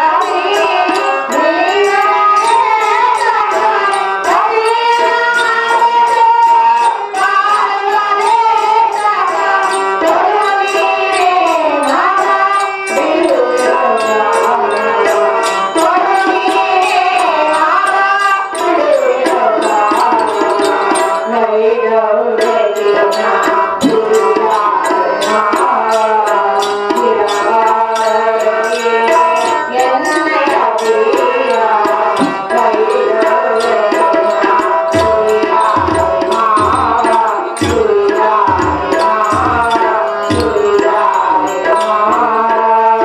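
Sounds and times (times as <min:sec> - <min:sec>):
fast tabla beat: 0:00.0 - 0:43.0.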